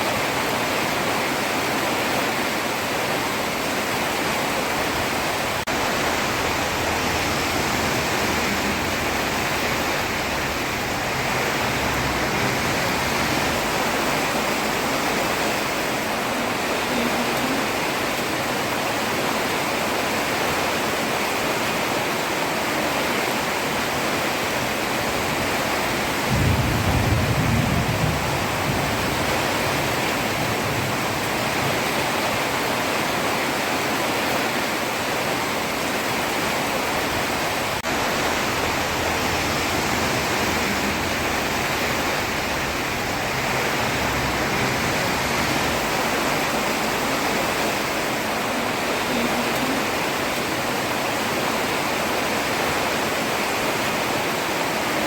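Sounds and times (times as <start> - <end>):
heavy rain on a road: 0.0 - 55.0.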